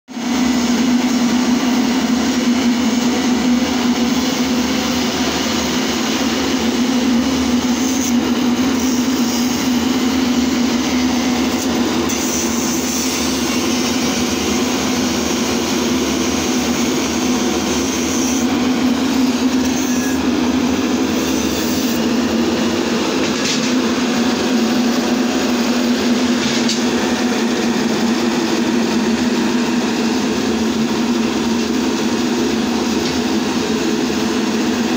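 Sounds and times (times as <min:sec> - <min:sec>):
mist cannon fan droning: 0:00.1 - 0:34.9.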